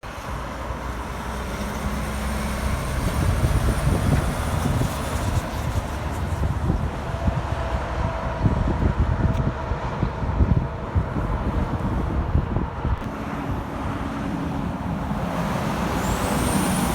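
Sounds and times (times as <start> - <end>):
truck diesel engine: 0.0 - 16.9
wind buffeting microphone: 1.5 - 16.9.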